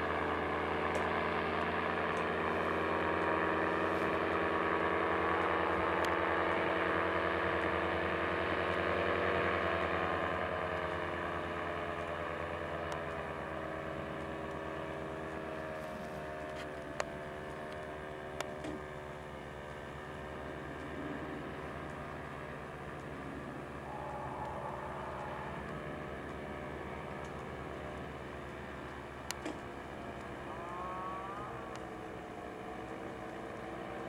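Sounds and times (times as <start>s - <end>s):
paramotor engine droning: 0.0s - 34.0s.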